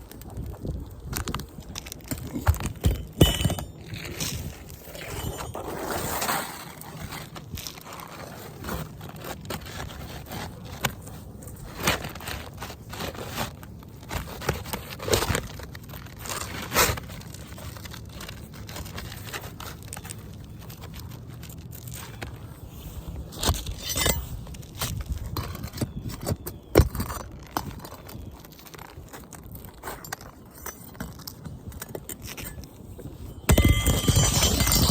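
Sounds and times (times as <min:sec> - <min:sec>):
roof shingles scraping and crackling: 0:00.0 - 0:34.9.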